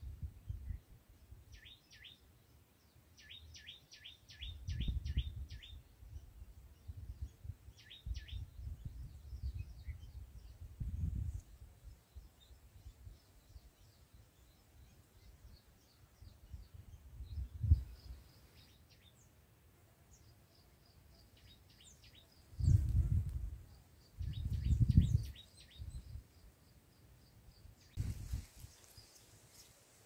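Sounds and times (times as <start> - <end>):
small birds chirping: 0.2 - 30.0.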